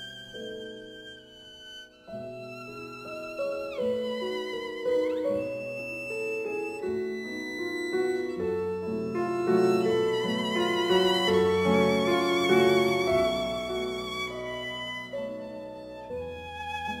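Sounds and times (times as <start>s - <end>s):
violin melody with vibrato: 0.0s - 17.0s.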